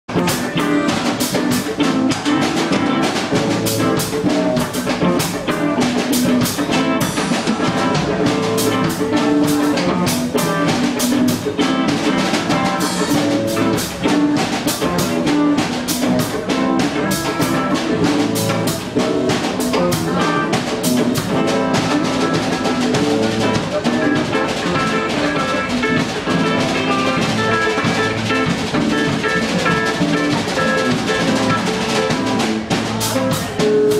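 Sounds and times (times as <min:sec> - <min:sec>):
drum kit hits: 0:00.1 - 0:33.9
live band playing: 0:00.1 - 0:33.9.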